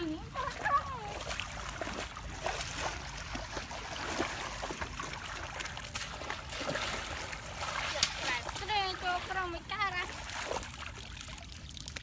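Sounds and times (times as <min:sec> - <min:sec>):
legs wading in water: 0:00.0 - 0:12.0
water dripping: 0:00.0 - 0:12.0
water splashing and trickling: 0:00.0 - 0:12.0.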